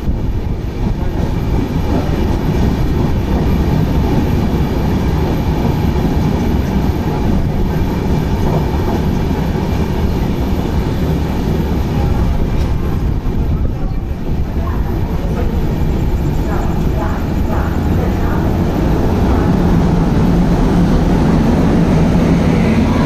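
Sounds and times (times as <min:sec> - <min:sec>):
passenger train rushing past: 0:00.0 - 0:23.0.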